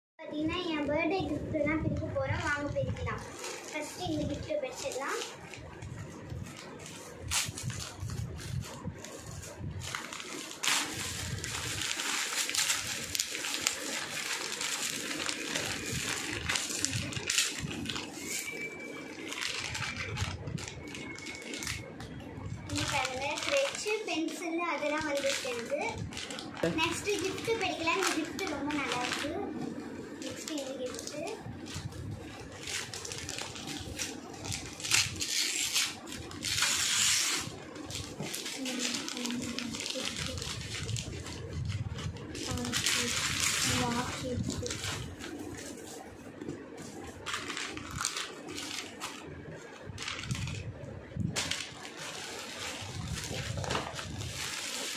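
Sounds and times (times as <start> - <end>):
foil gift wrap crinkling and tearing: 1.7 - 54.9.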